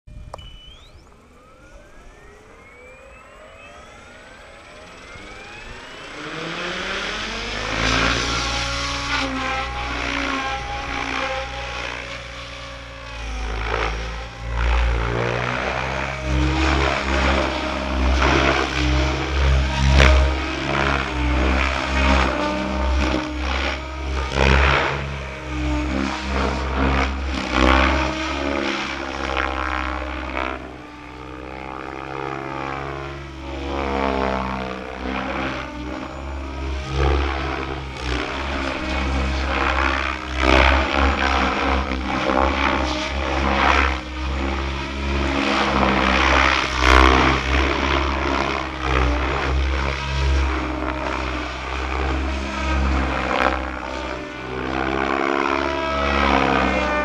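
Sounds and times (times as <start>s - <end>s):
model helicopter rotor buzzing: 0.1s - 57.0s.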